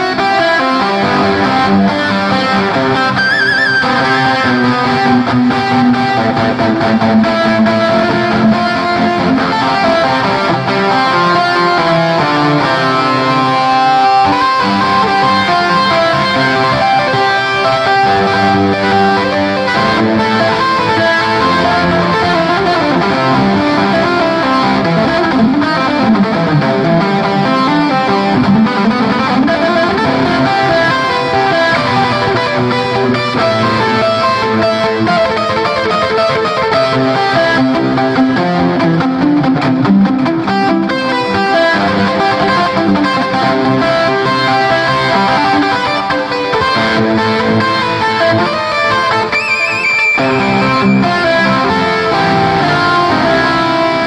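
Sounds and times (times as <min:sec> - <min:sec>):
keyboard guitar melody and chords: 0:00.0 - 0:54.0.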